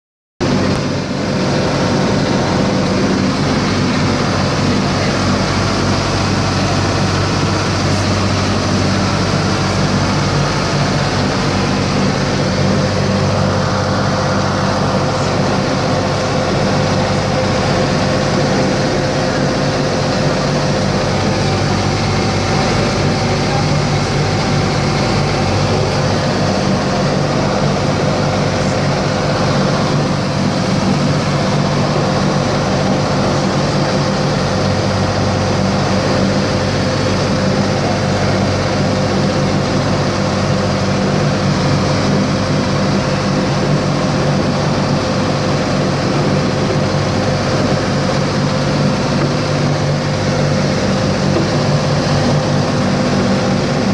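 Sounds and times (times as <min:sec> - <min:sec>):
boat engines droning: 0:00.4 - 0:53.9
steady hum: 0:00.4 - 0:53.9
water rushing along hull: 0:00.4 - 0:53.9.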